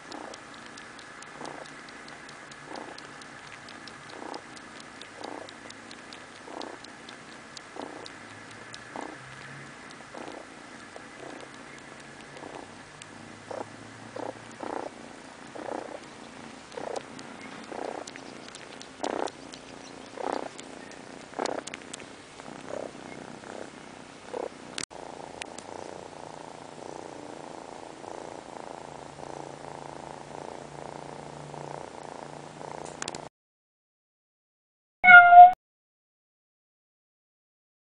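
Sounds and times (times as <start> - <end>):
kitten purring: 0.0 - 33.3.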